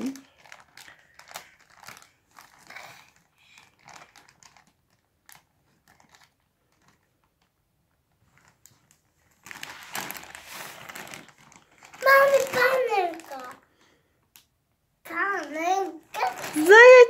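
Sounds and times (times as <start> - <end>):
plastic bag crinkling: 0.0 - 7.6, 8.2 - 14.3, 15.1 - 17.0.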